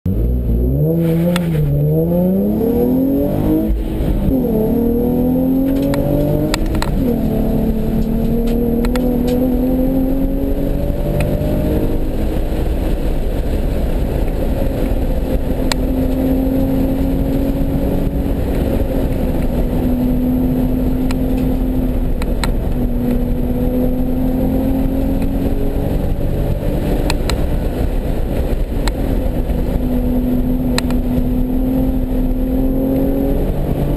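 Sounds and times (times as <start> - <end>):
car engine accelerating hard: 0.1 - 33.9.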